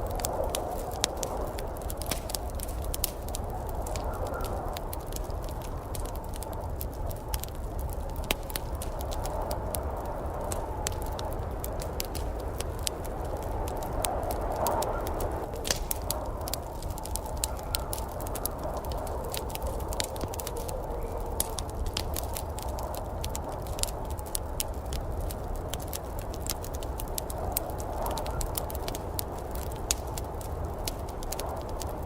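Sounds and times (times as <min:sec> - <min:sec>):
fire popping: 0:00.0 - 0:32.0
wood fire crackling: 0:00.0 - 0:32.0.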